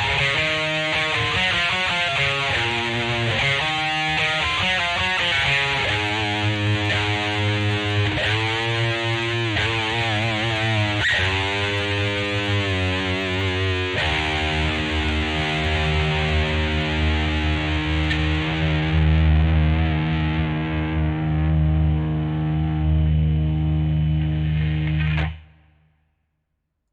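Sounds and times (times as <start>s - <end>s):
distorted electric guitar: 0.0s - 25.8s.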